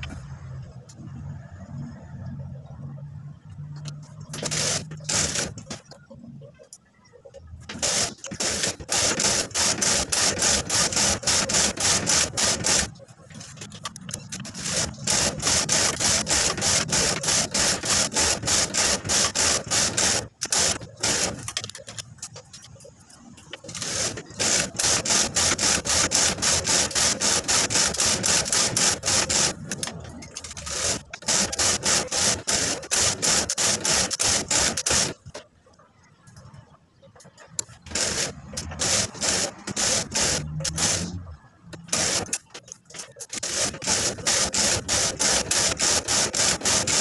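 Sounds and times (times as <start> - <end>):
knitting machine carriage clattering: 7.4 - 35.5, 37.2 - 47.0.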